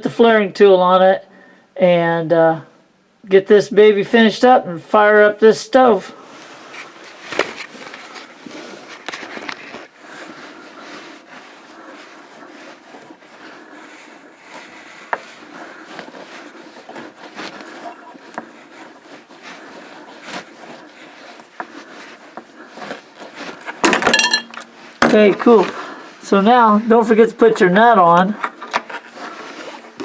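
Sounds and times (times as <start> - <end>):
tubing scraping and handling: 5.8 - 30.0.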